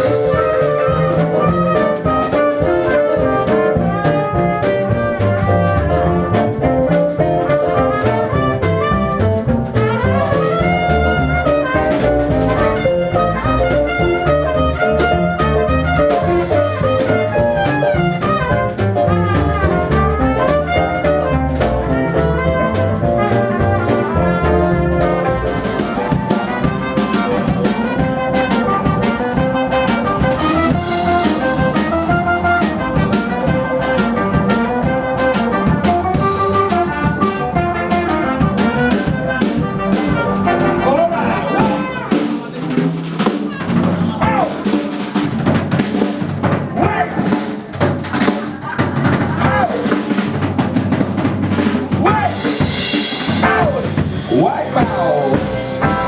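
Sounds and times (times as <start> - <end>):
swing band playing: 0.0 - 56.0.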